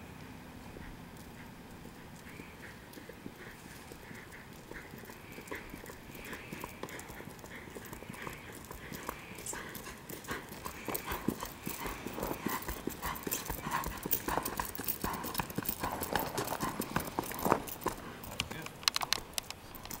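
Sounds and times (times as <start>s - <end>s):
hoofbeats on gravel: 1.2s - 20.0s.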